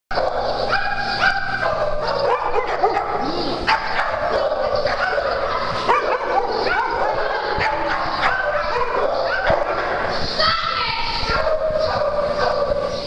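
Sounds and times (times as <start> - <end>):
dogs barking and yipping: 0.1 - 13.0.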